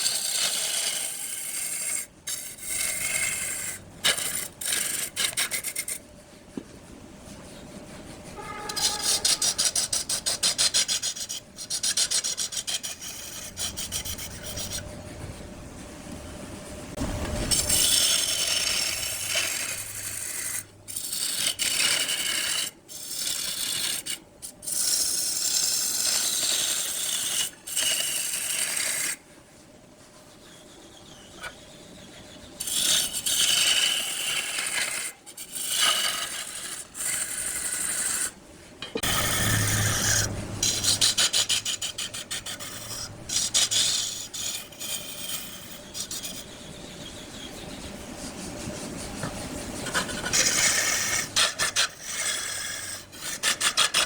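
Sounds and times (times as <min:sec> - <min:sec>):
tool scraping wood on a lathe: 0:00.0 - 0:06.6, 0:07.2 - 0:15.3, 0:17.0 - 0:29.2, 0:30.1 - 0:54.0.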